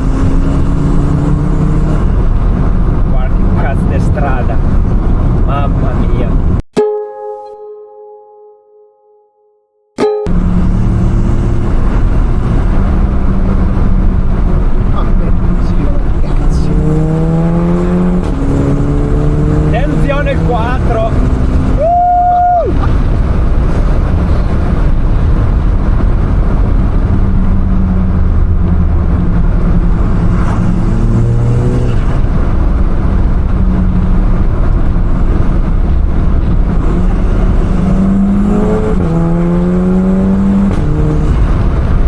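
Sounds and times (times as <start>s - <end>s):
car engine revving under load: 0.0s - 6.7s, 10.3s - 21.9s, 22.8s - 42.0s
road noise: 0.0s - 7.7s, 10.0s - 42.0s.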